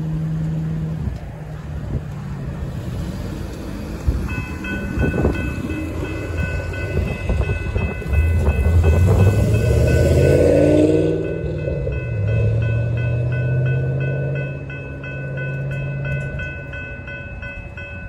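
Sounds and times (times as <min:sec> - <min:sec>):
train rumble: 0:00.0 - 0:18.0
railroad crossing bell ringing: 0:03.4 - 0:18.0.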